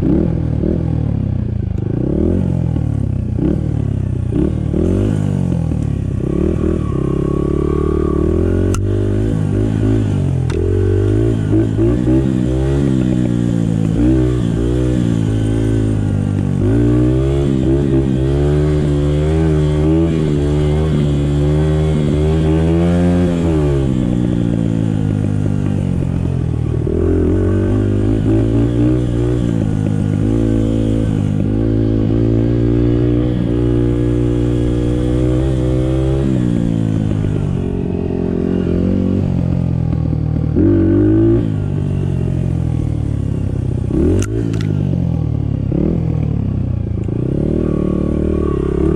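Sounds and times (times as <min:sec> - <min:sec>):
dirt bike engine revving: 0:03.4 - 0:45.0.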